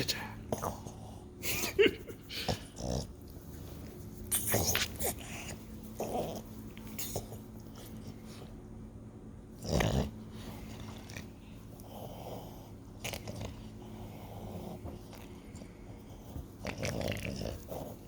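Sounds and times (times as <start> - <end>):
dog breathing and snuffling: 0.0 - 8.9, 9.5 - 18.0
dog snorting: 2.1 - 8.5, 9.5 - 18.0.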